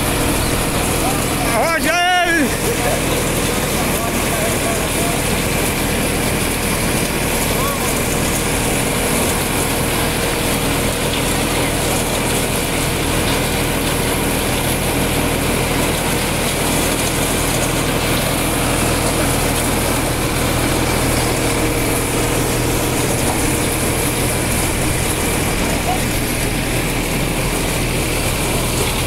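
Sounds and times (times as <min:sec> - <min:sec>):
tractor-powered thresher running: 0:00.0 - 0:29.0.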